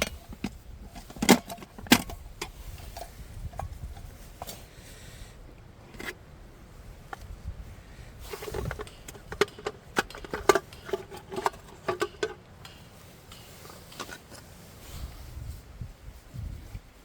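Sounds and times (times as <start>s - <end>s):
camping gear knocking and clinking: 0.0s - 15.0s.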